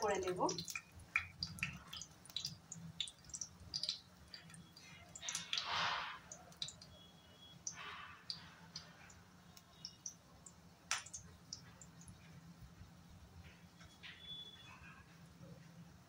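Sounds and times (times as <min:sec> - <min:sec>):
frying sizzle hiss: 0:00.0 - 0:13.8
hot oil crackling and popping: 0:00.0 - 0:14.7.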